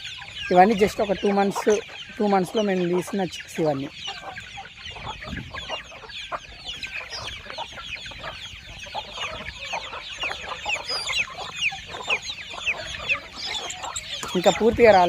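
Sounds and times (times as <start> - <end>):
chicks peeping and clucking: 0.0 - 15.0.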